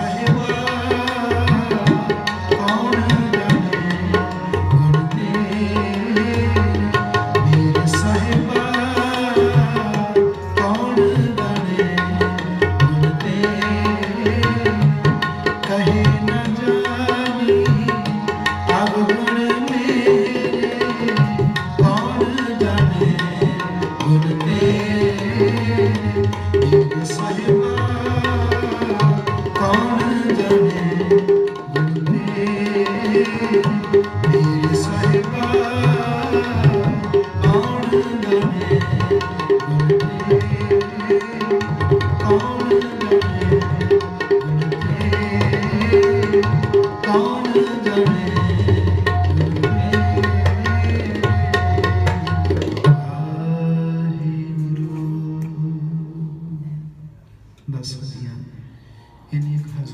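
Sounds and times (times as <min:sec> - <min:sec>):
tabla playing: 0:00.0 - 0:56.1.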